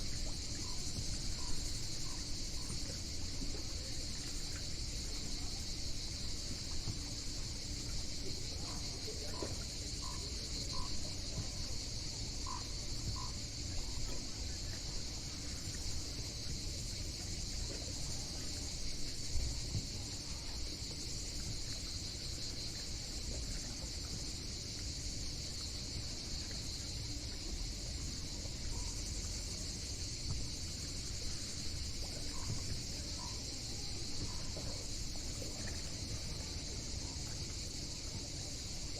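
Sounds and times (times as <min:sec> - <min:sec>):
shrill insect chorus: 0:00.0 - 0:38.9.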